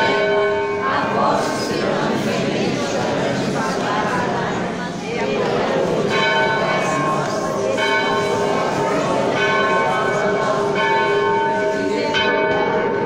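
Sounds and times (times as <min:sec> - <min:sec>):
church bell ringing: 0:00.0 - 0:04.4, 0:05.2 - 0:13.0.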